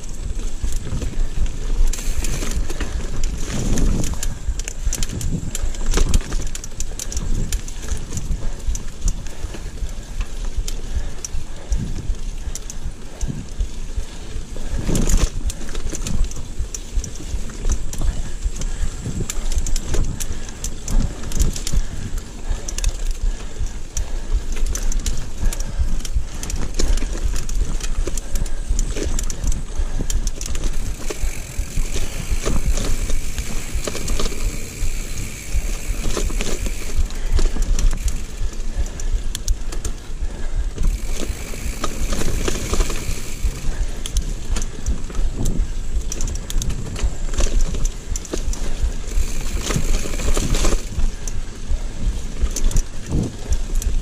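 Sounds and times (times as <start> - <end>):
bike tyres rumbling: 0.0 - 54.0.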